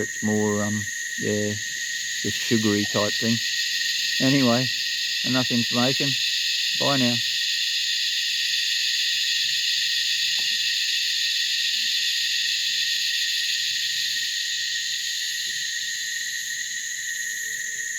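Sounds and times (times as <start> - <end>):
cicadas droning: 0.0 - 17.9.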